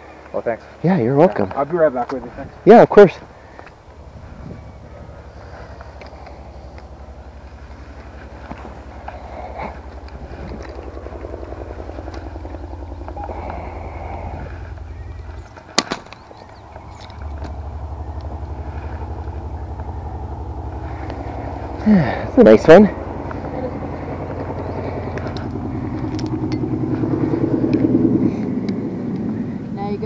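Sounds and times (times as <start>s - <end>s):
outboard boat motor running: 3.2s - 30.0s.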